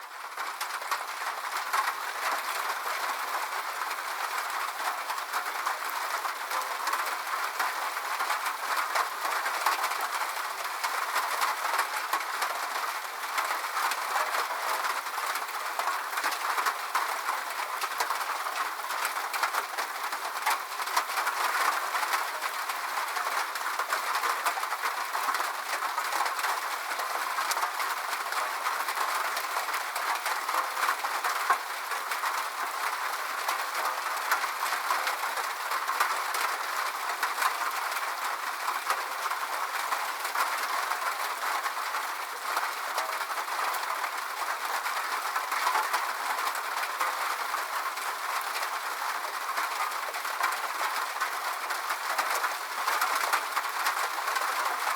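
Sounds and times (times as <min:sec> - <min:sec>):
rain hiss with drop taps: 0:00.3 - 0:54.9.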